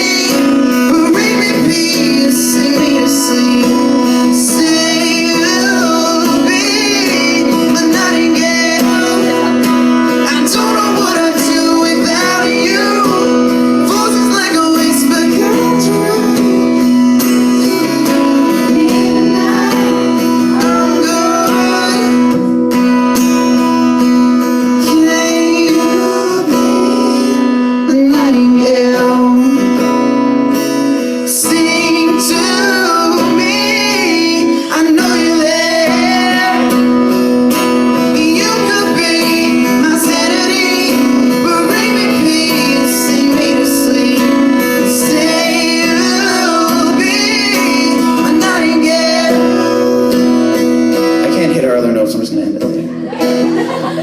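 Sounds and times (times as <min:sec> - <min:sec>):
person singing: 0:00.0 - 0:51.4
acoustic guitar: 0:00.0 - 0:54.0.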